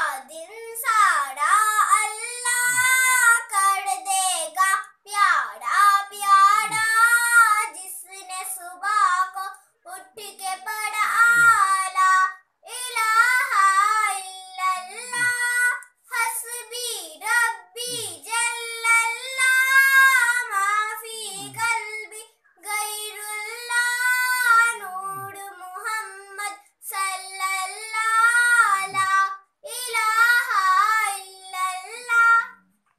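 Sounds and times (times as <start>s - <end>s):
girl singing unaccompanied: 0.0s - 32.7s.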